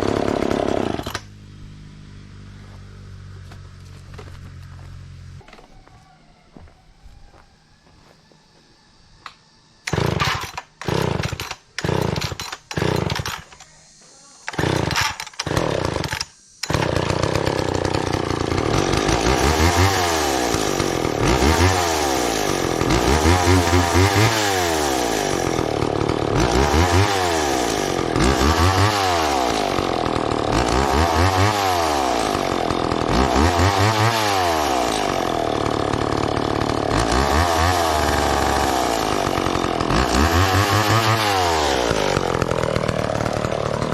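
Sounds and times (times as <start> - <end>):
chainsaw running: 0.0 - 5.4, 9.8 - 43.9.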